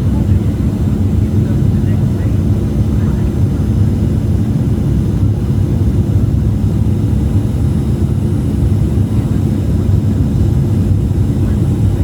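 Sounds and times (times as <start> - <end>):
low cabin rumble: 0.0 - 12.0.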